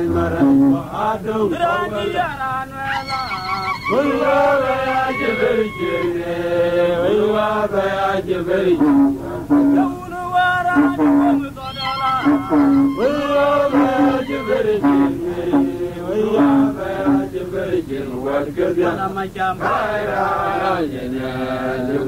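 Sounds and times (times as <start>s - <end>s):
man singing chant-like song: 0.0s - 22.0s.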